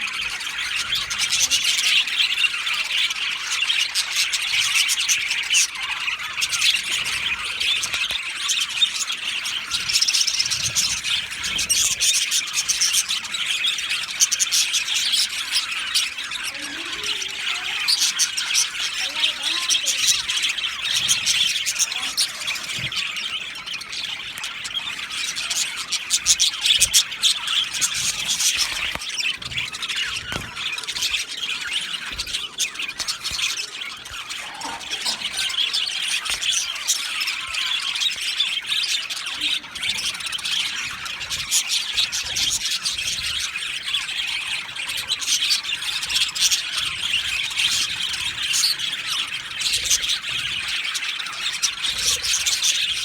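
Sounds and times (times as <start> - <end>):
flock of budgerigars chattering: 0.0 - 53.0.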